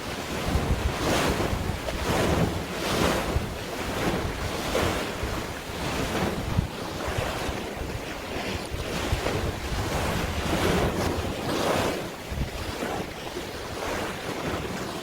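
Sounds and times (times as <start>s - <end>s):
sea waves: 0.0s - 15.0s
wind gusting on microphone: 0.0s - 15.0s.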